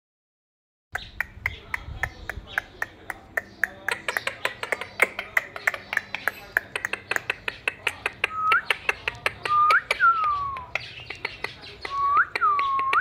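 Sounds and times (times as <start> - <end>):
parakeet clicking and chirping: 0.9 - 13.0.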